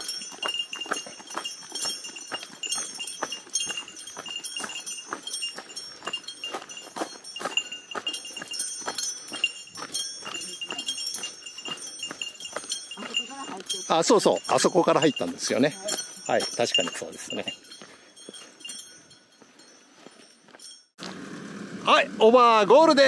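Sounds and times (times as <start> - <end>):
small metal bell jingling: 0.0 - 21.0.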